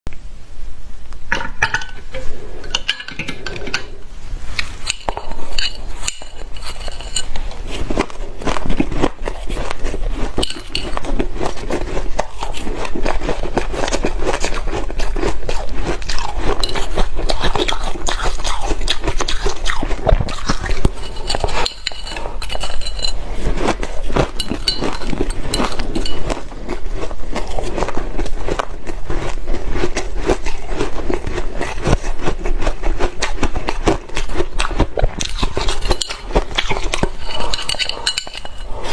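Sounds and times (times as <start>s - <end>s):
ice being crunched and chewed: 4.5s - 38.9s
chopsticks scraping ice: 4.6s - 38.9s.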